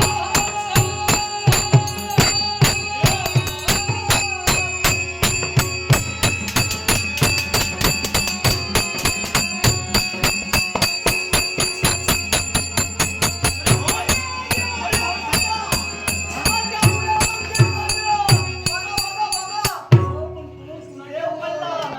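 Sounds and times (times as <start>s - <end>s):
small hand cymbals: 0.0s - 19.9s
drum beating fast rhythm: 0.0s - 20.2s
steady held tones: 0.0s - 21.0s.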